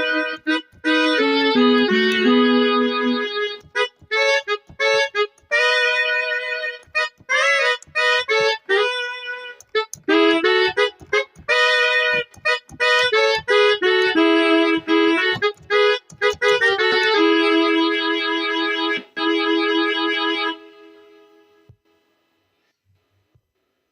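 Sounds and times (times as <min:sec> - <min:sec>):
keyboard chords and notes: 0:00.0 - 0:21.7.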